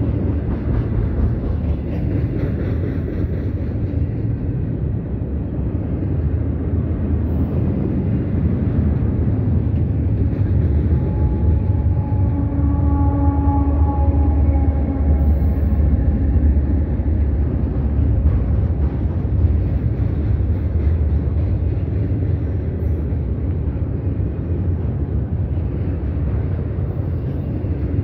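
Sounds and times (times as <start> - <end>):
diesel locomotive droning hum: 0.0 - 28.0
steel wheels rumbling on rail: 0.0 - 28.0.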